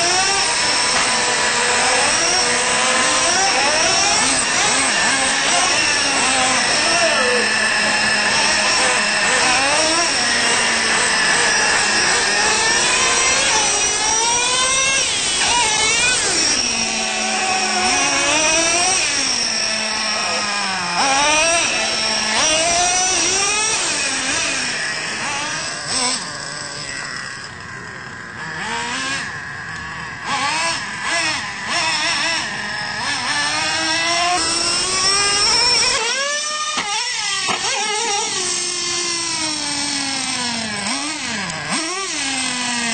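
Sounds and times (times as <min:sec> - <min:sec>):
rc truck engine revving: 0:00.0 - 0:42.9.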